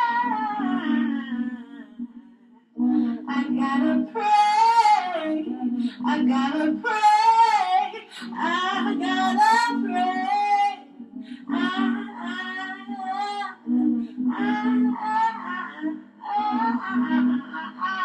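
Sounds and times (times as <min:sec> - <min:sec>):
low held vocal loop: 0:00.0 - 0:18.0
person singing into a microphone: 0:00.0 - 0:18.0.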